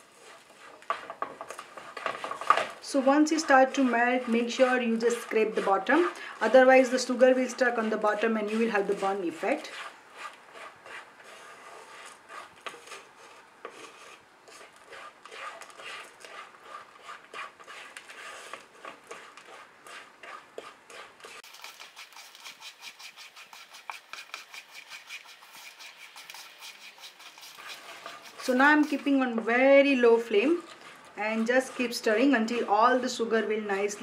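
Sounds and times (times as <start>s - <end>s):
wooden spatula scraping sugar in pan: 0.0s - 34.0s.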